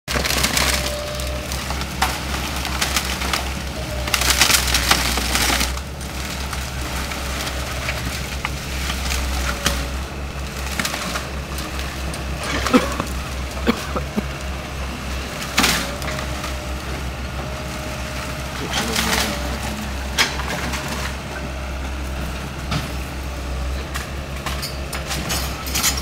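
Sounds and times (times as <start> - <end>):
excavator diesel engine running: 0.1 - 26.0
wood cracking and splintering: 0.1 - 26.0.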